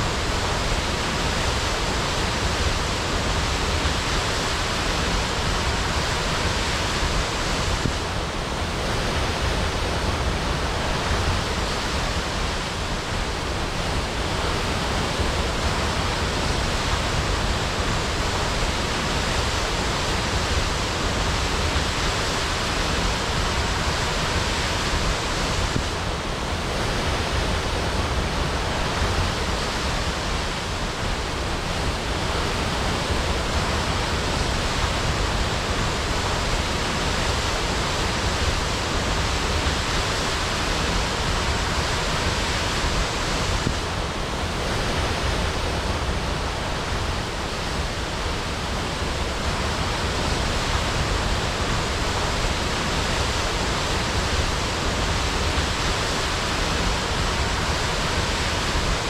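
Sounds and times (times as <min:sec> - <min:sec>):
waterfall crashing: 0:00.0 - 0:59.0.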